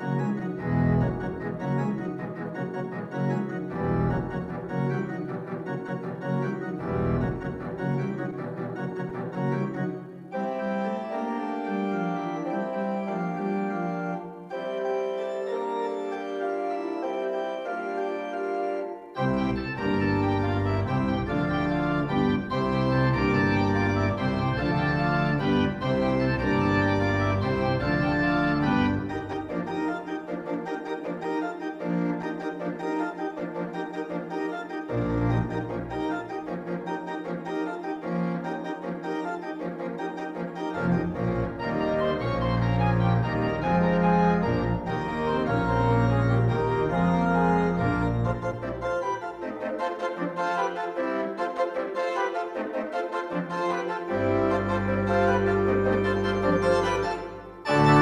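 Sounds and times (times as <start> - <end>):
church organ chords: 0.0 - 40.0, 40.6 - 58.0.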